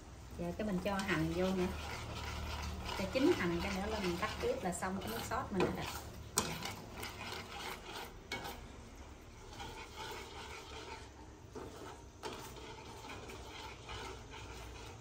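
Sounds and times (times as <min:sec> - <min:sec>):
chopsticks stirring simmering sauce: 0:00.4 - 0:15.0.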